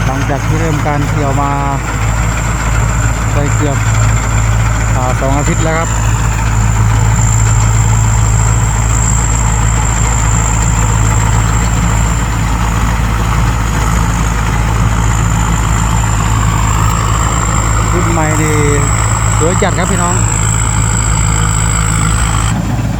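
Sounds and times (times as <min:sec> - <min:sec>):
combine harvester engine humming: 0:00.0 - 0:22.9
high-pitched whine: 0:00.0 - 0:22.9.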